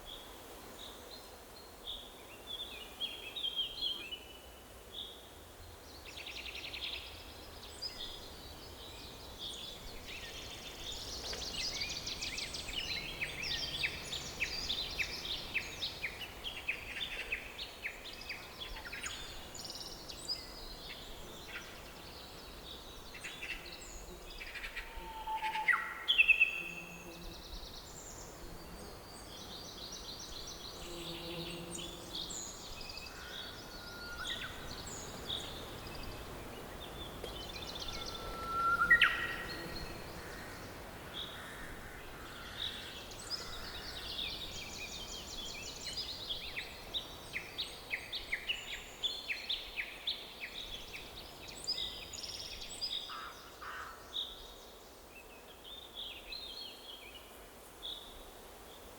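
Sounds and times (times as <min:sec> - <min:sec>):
forest ambience hiss: 0:00.0 - 0:58.9
songbirds singing and calling: 0:00.0 - 0:58.9.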